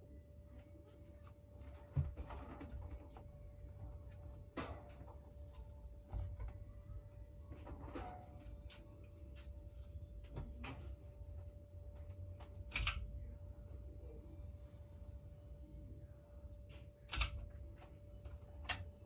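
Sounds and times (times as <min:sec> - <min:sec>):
ceiling fan hum and whine: 0:00.0 - 0:19.0.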